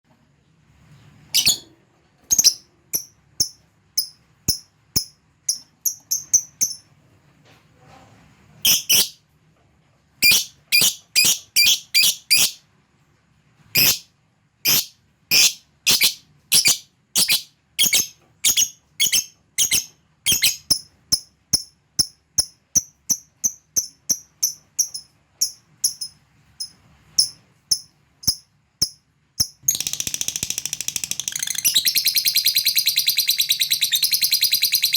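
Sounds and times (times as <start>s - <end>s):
lovebird high-pitched chirps: 1.3s - 1.7s, 2.3s - 6.9s, 8.6s - 9.2s, 10.2s - 12.6s, 13.7s - 34.9s.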